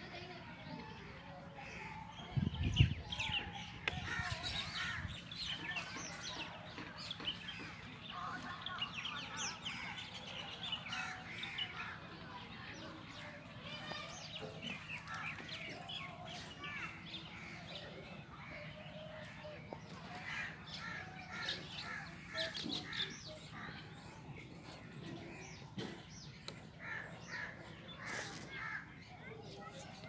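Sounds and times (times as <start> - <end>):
birds chirping and calling: 0.6 - 30.0.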